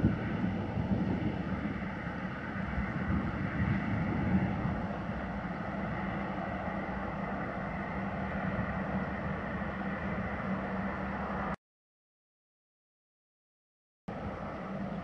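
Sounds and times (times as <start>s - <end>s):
outdoor background noise: 0.0s - 11.6s, 14.1s - 15.0s.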